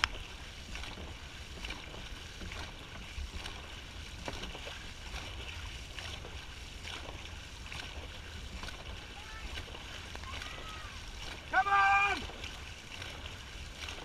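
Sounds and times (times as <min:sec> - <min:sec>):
paddles stroking through water: 0:00.0 - 0:14.0
water rushing along hull: 0:00.0 - 0:14.0.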